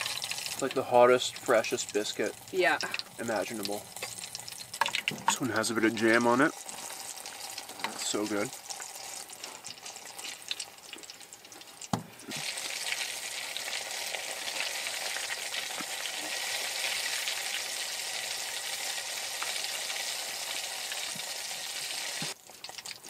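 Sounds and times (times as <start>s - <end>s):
hot oil sizzling in a pan: 0.0s - 23.0s.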